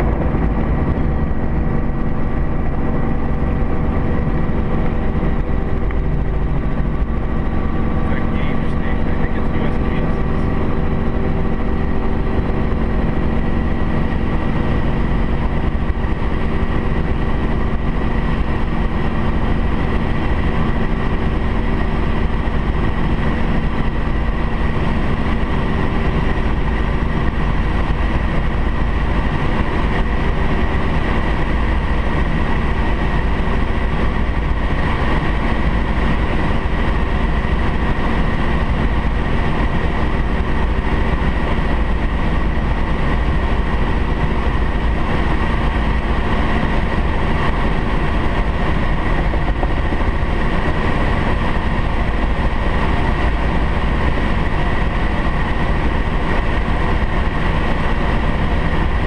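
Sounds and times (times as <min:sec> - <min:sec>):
light plane engine droning: 0:00.0 - 0:59.0.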